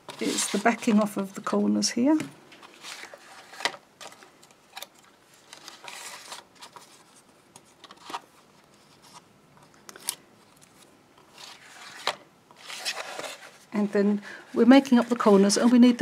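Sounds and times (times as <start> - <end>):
paper rustling: 0.0 - 1.6, 2.6 - 16.0.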